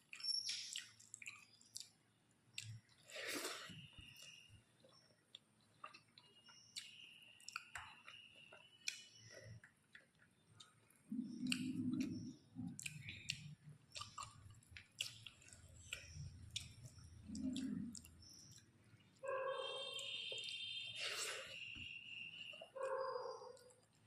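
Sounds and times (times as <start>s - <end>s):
chewing and wet mouth sounds: 0.0s - 21.7s, 22.3s - 24.0s.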